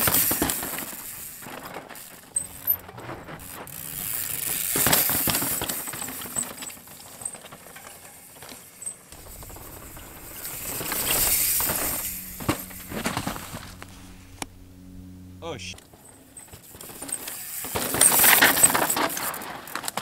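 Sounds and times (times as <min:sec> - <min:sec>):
bike tyres rolling on dirt: 0:00.0 - 0:20.0
bikes rattling and knocking: 0:00.0 - 0:20.0.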